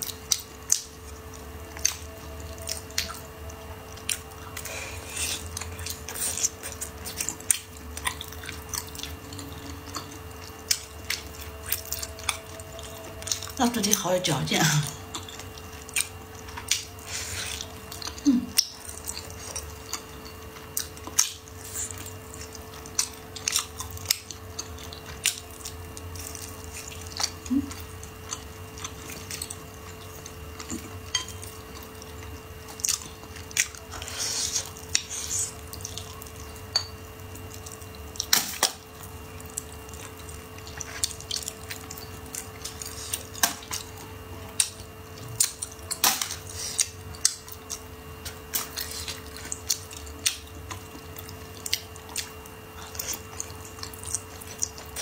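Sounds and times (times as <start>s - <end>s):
wet chewing mouth sounds: 0.0s - 13.6s, 14.9s - 55.0s
faint steady hum: 0.0s - 55.0s.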